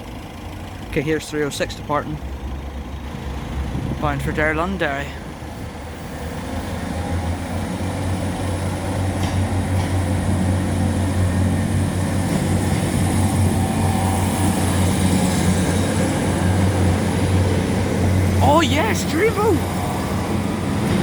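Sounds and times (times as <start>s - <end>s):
diesel train engine drone: 0.0s - 18.6s.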